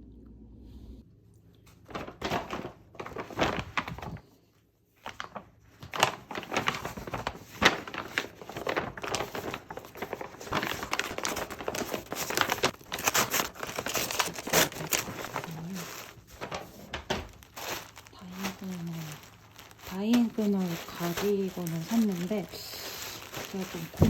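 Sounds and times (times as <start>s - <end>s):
packaging crinkling and rustling: 1.7s - 4.3s, 5.0s - 24.0s.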